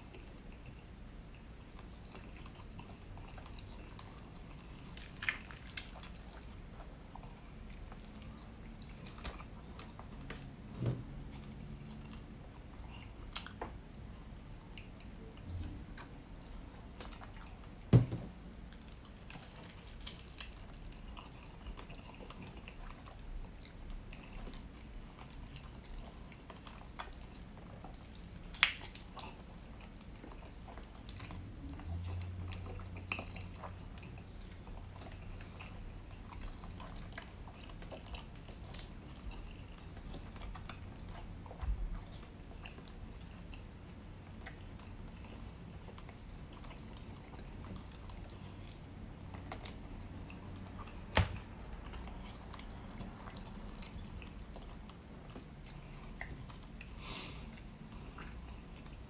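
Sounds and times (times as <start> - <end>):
wet chewing and biting: 1.7 - 10.3, 11.3 - 57.0.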